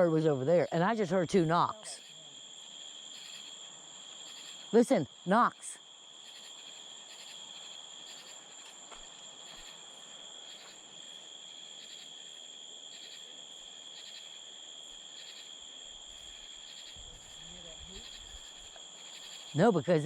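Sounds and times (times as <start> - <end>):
crickets droning: 0.0 - 20.0
rhythmic insect chirps: 0.0 - 20.0.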